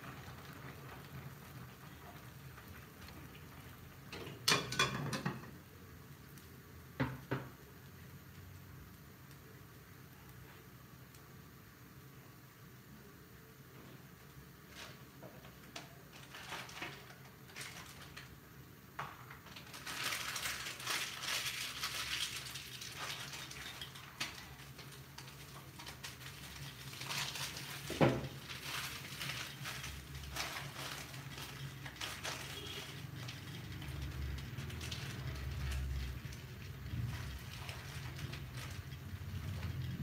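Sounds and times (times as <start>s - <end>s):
food simmering and crackling: 0.0s - 40.0s.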